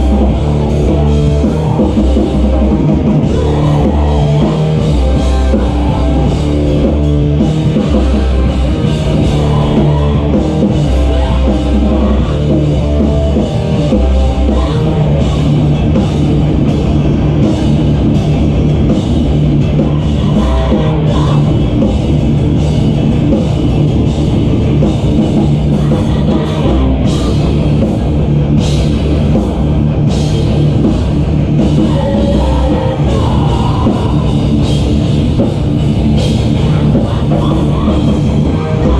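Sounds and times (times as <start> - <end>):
drum kit: 0.0 - 38.9
electric guitars: 0.0 - 38.9.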